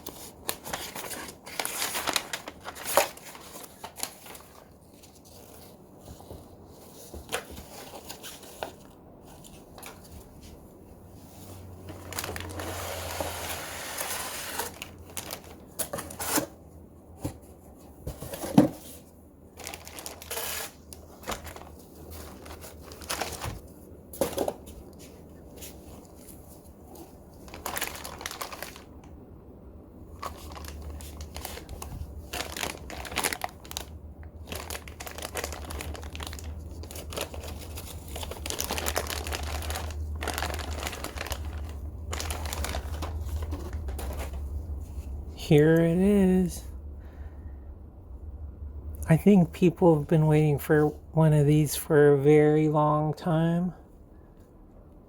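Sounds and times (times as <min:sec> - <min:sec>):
packaging crinkling and rustling: 0:00.0 - 0:29.2, 0:30.0 - 0:46.5.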